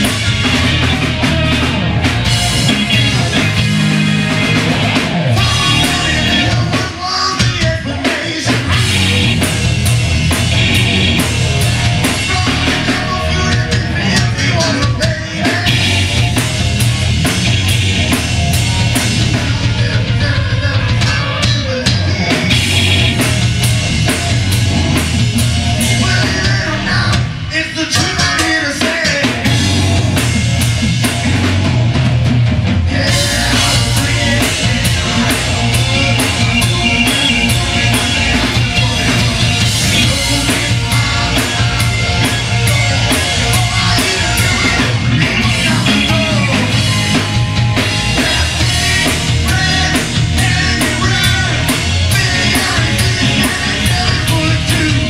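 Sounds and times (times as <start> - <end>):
bass guitar: 0.0 - 55.0
drum kit with crashing cymbals: 0.0 - 55.0
electric guitar: 0.0 - 55.0
keyboard: 0.0 - 55.0.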